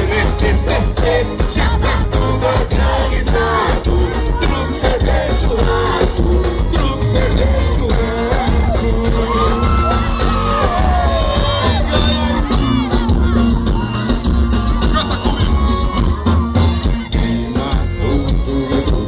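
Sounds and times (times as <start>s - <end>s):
crowd shouting: 0.0s - 17.2s
band with heavy bass beat: 0.0s - 19.0s
voices singing: 0.0s - 19.0s.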